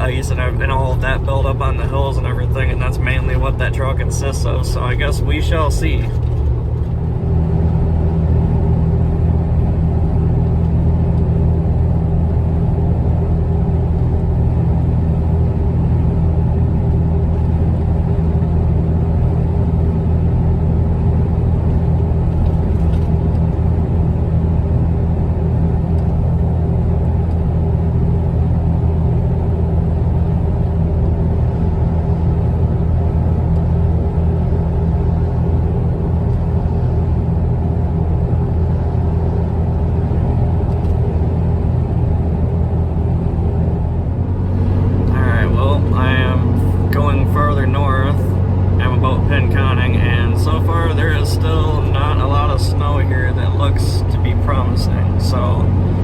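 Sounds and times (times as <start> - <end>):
engine and road drone in car: 0.0 - 56.0.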